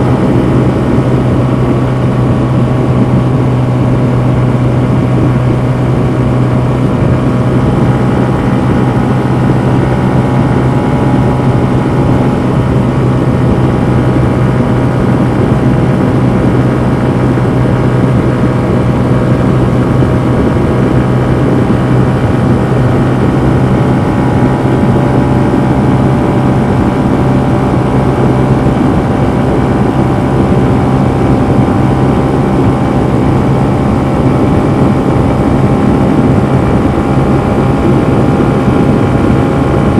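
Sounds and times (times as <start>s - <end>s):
motorcycle engine at full throttle: 0.0s - 39.9s.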